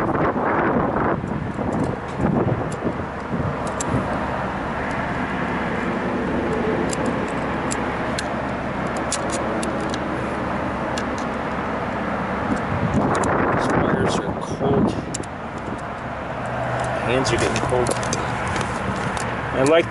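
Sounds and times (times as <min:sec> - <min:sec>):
steady background noise: 0:00.0 - 0:19.9.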